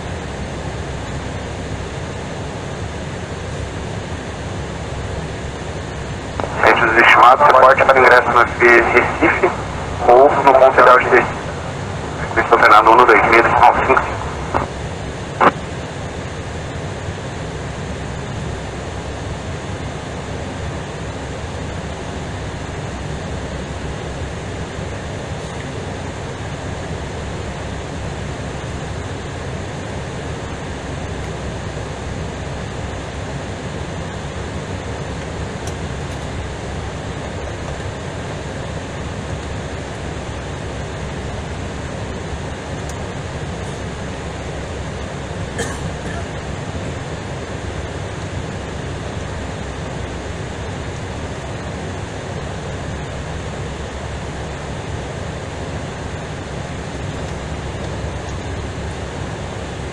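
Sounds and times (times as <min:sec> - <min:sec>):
airplane taxiing rushing noise: 0:00.0 - 0:59.9.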